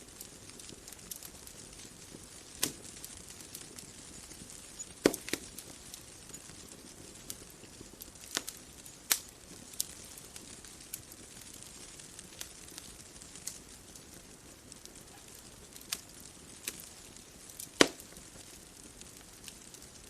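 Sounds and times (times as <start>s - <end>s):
soft steady hiss: 0.0s - 20.0s
wood fire popping and snapping: 0.0s - 20.0s.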